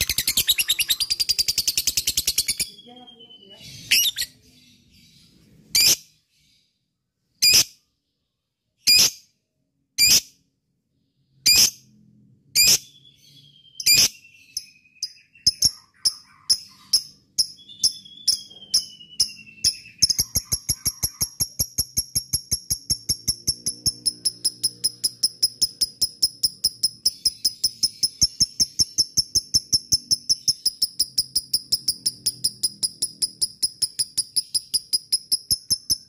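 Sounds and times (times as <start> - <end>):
lovebird chirping and trilling: 0.0 - 8.2, 8.8 - 9.4, 10.0 - 10.4, 11.1 - 36.0.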